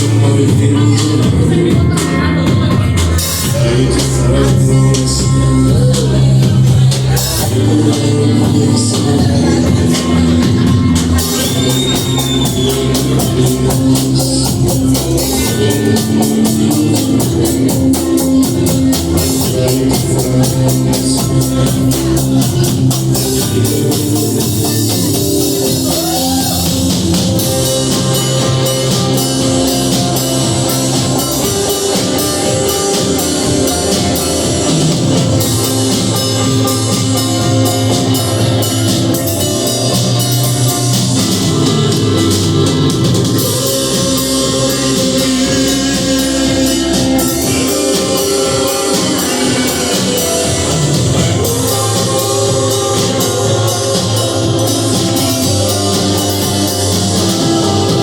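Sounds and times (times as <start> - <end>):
drum kit beat: 0.0 - 58.0
rock band playing: 0.0 - 58.0.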